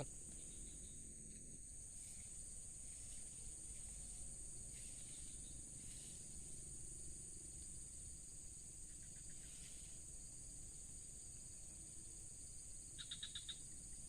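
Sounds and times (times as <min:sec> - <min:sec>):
faint low hum: 0:00.0 - 0:14.0
insects chirring: 0:00.0 - 0:14.0.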